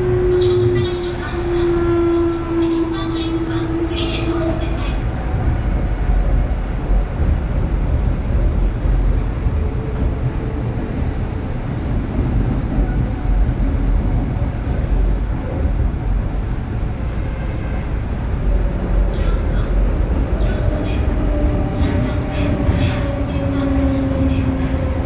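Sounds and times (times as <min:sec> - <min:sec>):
electric train rumbling on track: 0:00.0 - 0:25.0.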